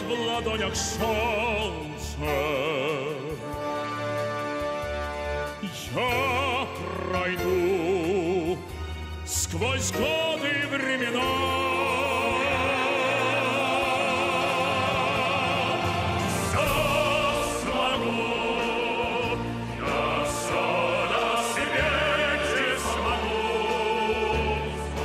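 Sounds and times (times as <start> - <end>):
operatic singing: 0.0 - 25.0
orchestra playing: 0.0 - 25.0.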